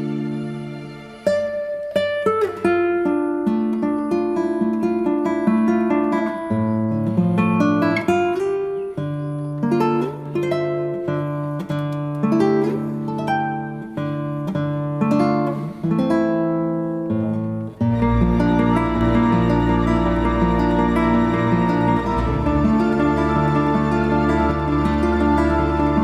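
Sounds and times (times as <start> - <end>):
plucked acoustic guitar melody: 0.0 - 26.0.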